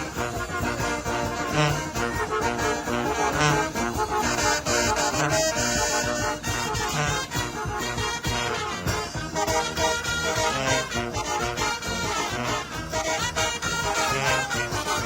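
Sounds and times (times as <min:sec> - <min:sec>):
brass band with trumpets: 0:00.0 - 0:15.0
steady bass beat: 0:00.0 - 0:15.0.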